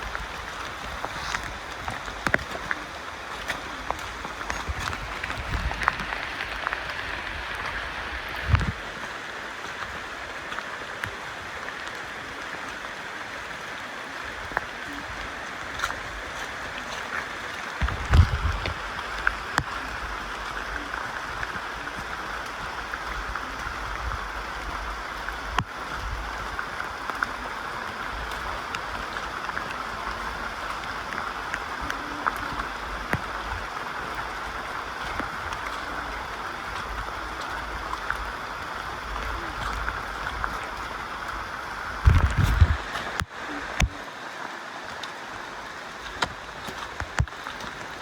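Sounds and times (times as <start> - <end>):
rainforest background hiss: 0.0 - 48.0.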